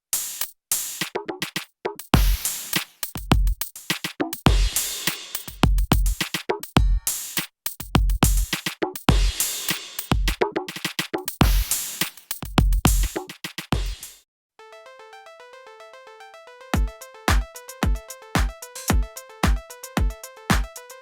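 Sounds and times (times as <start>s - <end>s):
electronic drum groove: 0.2s - 14.2s, 16.8s - 21.0s.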